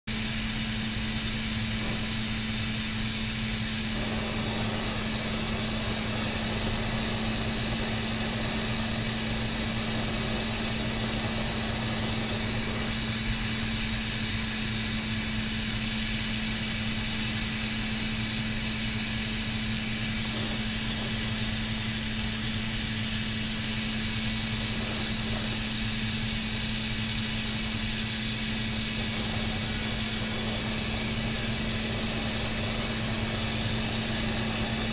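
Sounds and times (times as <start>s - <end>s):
low hum of shop equipment: 0.0s - 34.9s
torch burning with hiss: 0.1s - 34.9s.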